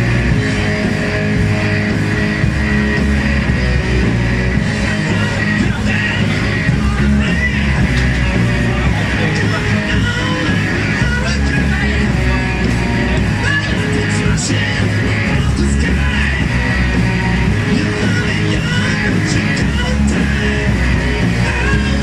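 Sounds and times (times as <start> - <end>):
rock music with singing and guitar: 0.0 - 22.0.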